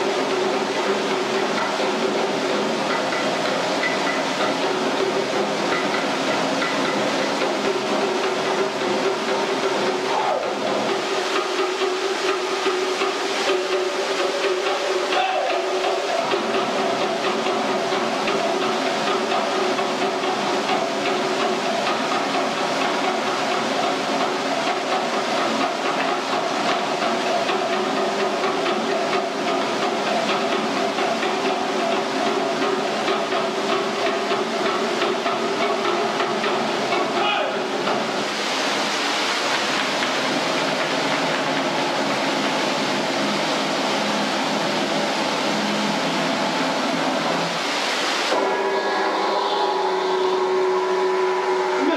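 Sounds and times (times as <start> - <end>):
steady rushing hiss: 0.0 - 51.9.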